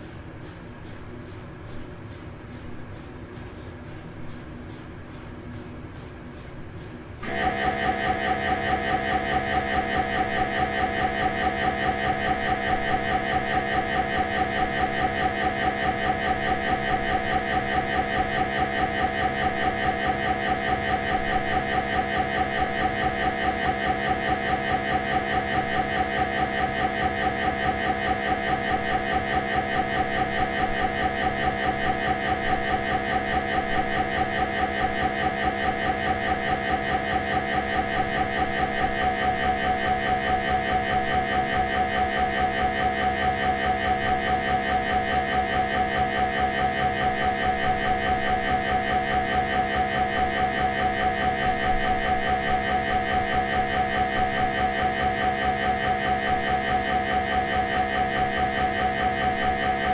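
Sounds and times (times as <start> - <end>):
buzzing pulsing tone: 0.0 - 59.9.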